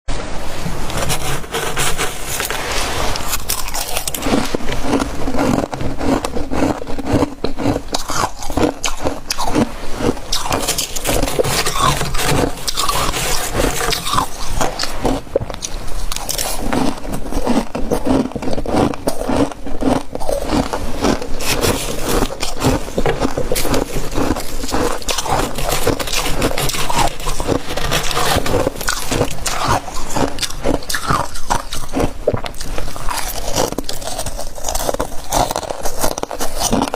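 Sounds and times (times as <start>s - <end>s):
crunching and chewing frost: 0.9s - 36.9s.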